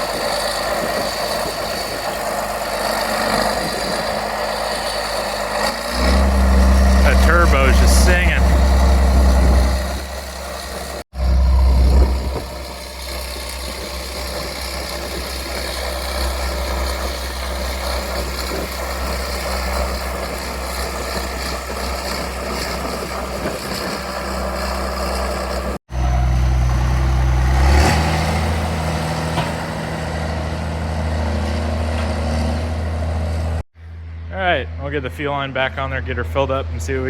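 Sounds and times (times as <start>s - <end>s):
engine idling: 0.0s - 34.3s
loud engine hum: 0.0s - 37.0s.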